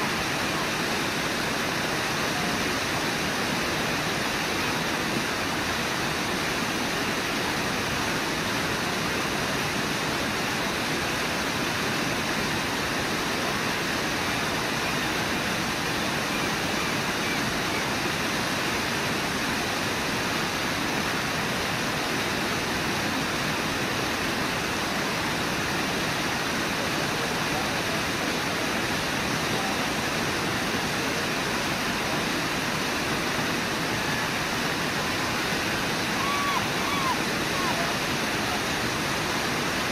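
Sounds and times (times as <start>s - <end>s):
fast river water rushing: 0.0s - 39.9s.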